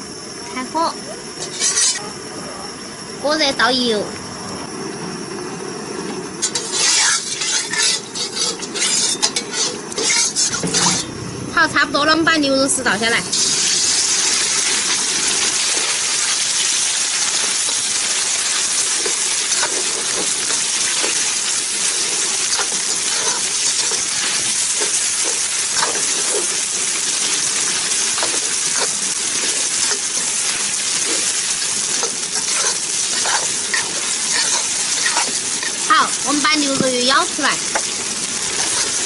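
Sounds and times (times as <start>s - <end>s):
meat sizzling in hot oil: 0.0s - 2.1s, 4.7s - 11.2s, 12.6s - 39.0s.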